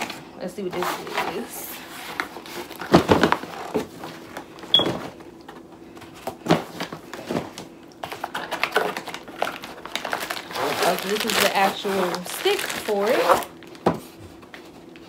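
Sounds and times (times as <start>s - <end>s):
cardboard rustling and scraping: 0.0s - 15.0s.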